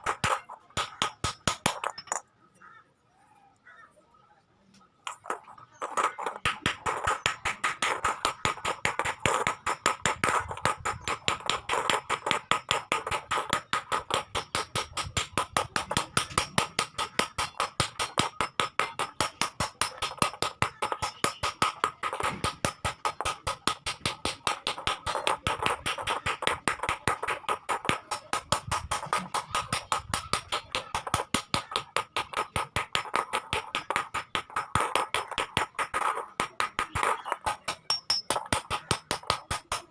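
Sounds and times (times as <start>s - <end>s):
hammer beating iron: 0.0s - 2.2s, 5.1s - 39.9s.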